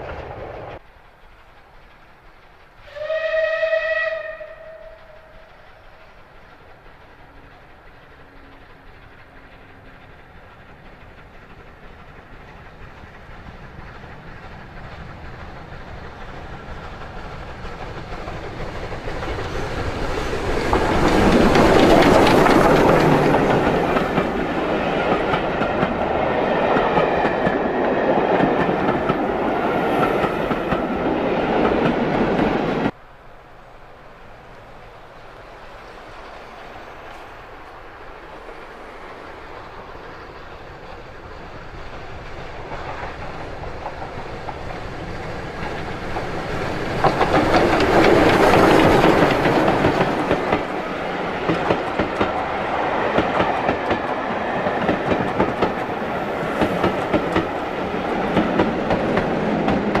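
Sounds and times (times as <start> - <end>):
coaches clickety-clack on rail joints: 0.0 - 60.0
distant approaching train: 0.0 - 60.0
steam locomotive passing: 0.0 - 60.0.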